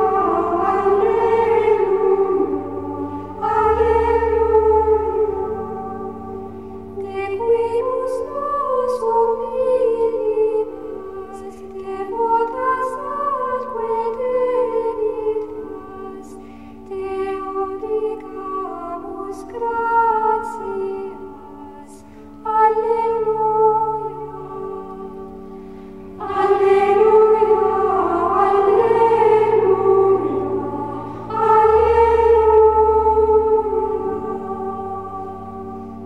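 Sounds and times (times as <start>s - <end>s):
slow music with held notes: 0.0s - 36.0s.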